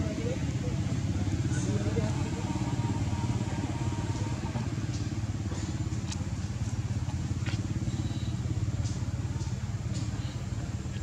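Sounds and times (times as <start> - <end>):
small engine rumbling: 0.0 - 11.0.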